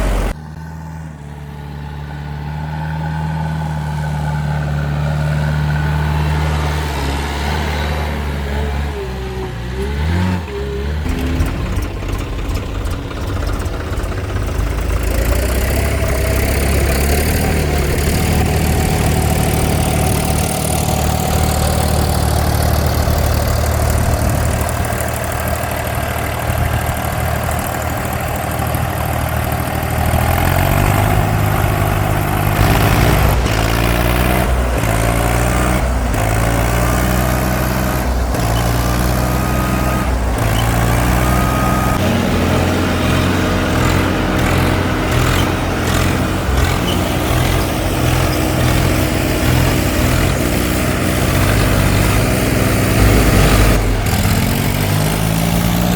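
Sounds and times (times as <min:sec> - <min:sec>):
heavy diesel engine revving: 0:00.0 - 0:55.9.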